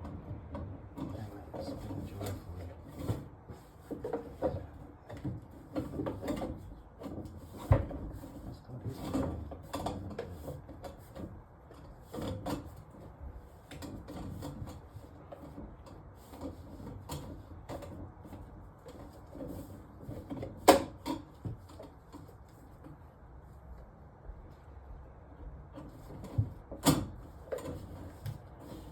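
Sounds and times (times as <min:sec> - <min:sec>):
knocks and clicks of drain pipes: 0:00.0 - 0:23.0, 0:25.4 - 0:28.9.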